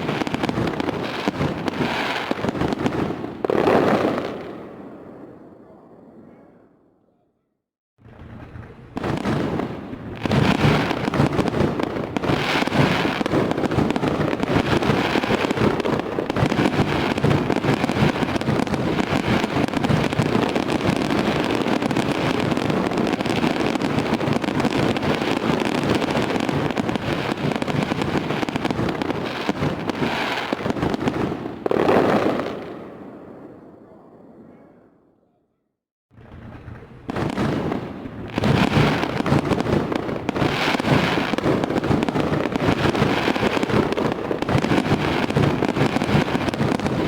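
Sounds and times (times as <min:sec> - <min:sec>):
fireworks bursts and crackles: 0:00.0 - 0:06.4, 0:08.0 - 0:34.5, 0:36.1 - 0:47.0.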